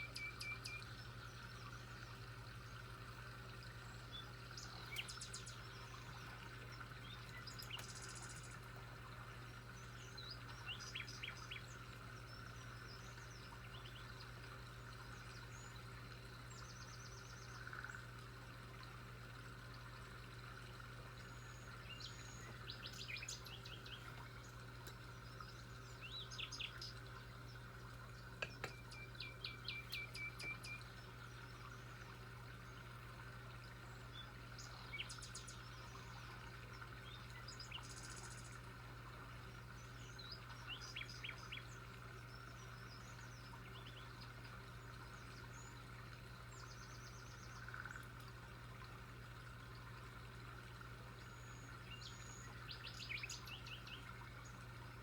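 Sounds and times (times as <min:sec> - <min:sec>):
wild birds chirping: 0:00.0 - 0:18.3, 0:20.1 - 0:38.8, 0:39.4 - 0:48.2, 0:51.0 - 0:54.8
faint steady background hum: 0:00.0 - 0:55.0.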